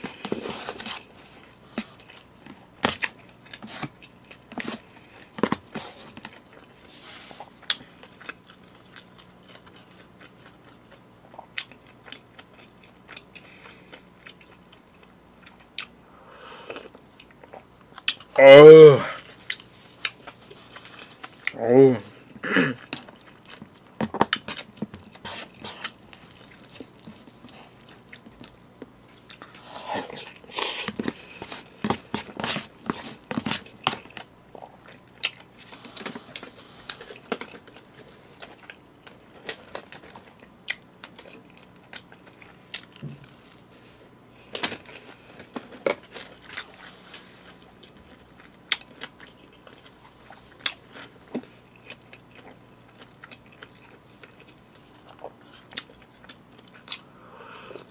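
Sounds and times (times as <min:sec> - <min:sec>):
crunchy chewing and biting: 0:00.0 - 0:18.4, 0:22.8 - 0:57.9.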